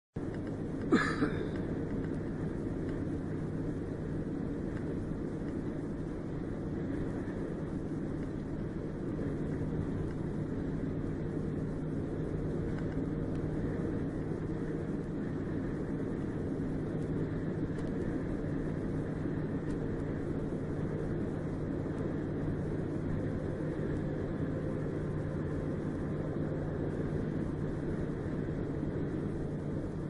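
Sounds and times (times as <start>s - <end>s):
car engine hum: 0.2s - 30.0s.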